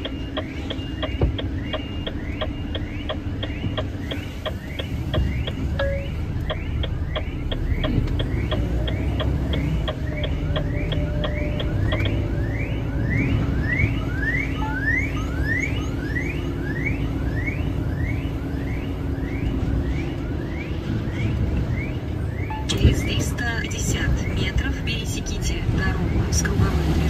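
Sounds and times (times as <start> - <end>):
road rumble: 0.0 - 27.0
truck engine running: 0.0 - 27.0.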